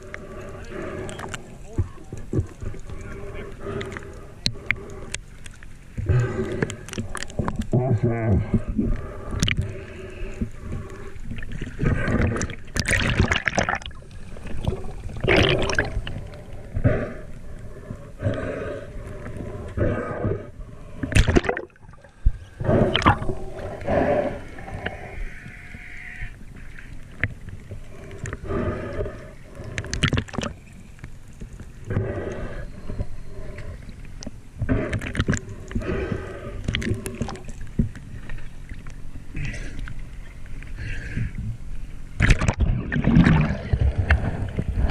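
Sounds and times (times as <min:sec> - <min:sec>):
muffled water sloshing: 0:00.0 - 0:44.9.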